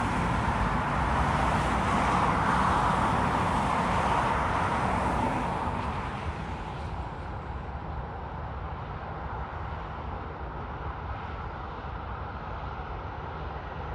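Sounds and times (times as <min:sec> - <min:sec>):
jet engines at takeoff thrust: 0:00.0 - 0:13.9.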